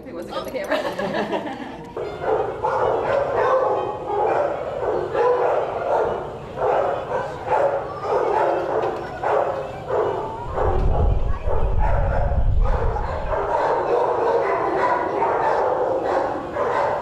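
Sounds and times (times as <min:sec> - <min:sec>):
dogs barking: 0:02.0 - 0:17.0.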